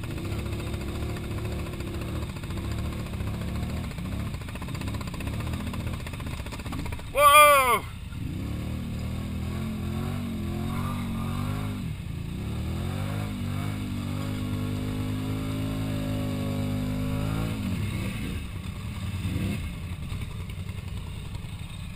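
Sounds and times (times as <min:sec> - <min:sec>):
atv engine revving: 0:00.0 - 0:21.9.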